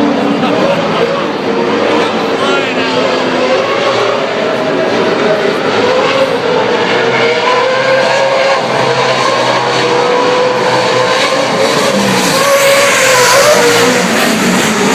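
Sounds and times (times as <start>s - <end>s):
race truck engines droning: 0.0s - 14.9s.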